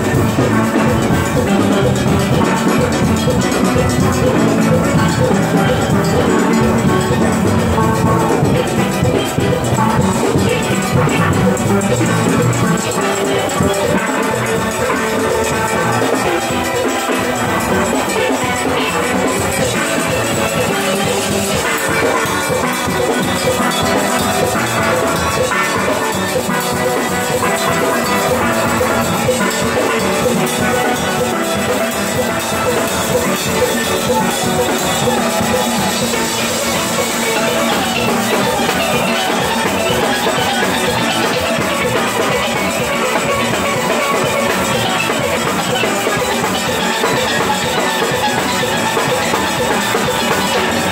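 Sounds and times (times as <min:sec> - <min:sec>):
percussion beat: 0:00.0 - 0:50.9
steel band playing: 0:00.0 - 0:50.9.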